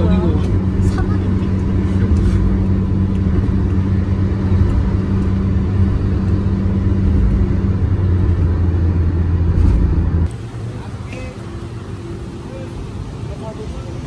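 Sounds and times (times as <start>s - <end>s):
car road noise from cabin: 0.0s - 14.0s
constant low hum: 0.0s - 14.0s.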